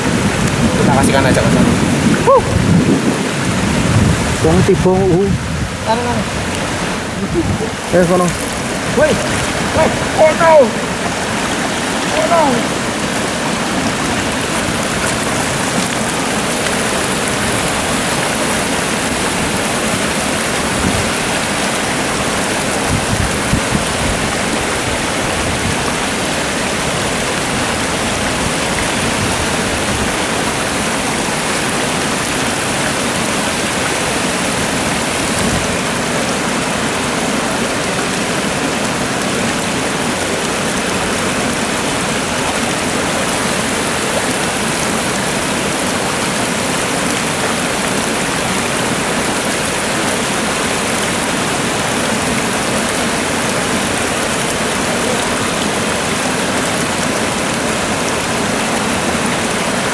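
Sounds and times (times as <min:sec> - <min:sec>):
river water rushing over weir: 0:00.0 - 0:59.9.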